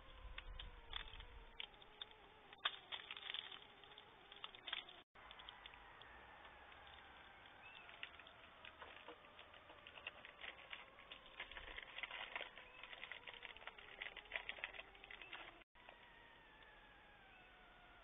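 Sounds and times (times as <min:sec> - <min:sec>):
hands handling small packets: 0:00.3 - 0:15.7.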